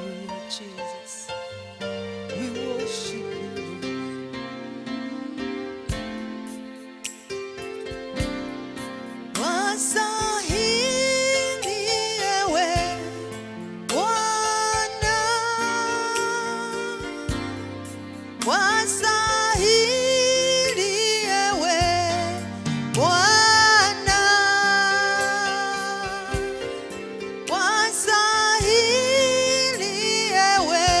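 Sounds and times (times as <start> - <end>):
keyboard chords: 0.0 - 31.0
person singing: 2.3 - 7.0, 9.4 - 17.7, 18.4 - 31.0
steady beat: 5.9 - 31.0.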